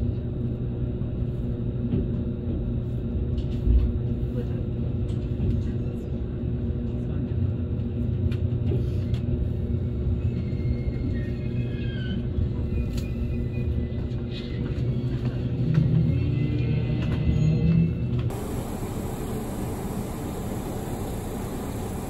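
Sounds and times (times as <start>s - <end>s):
constant hum: 0.0s - 17.3s, 17.9s - 22.0s.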